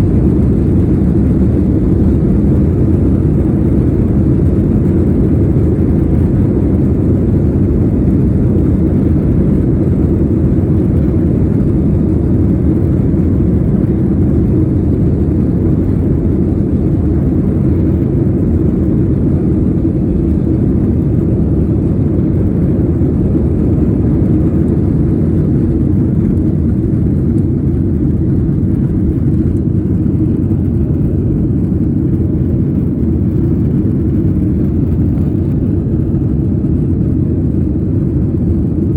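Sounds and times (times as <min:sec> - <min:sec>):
jet airliner rumble: 0:00.0 - 0:38.9.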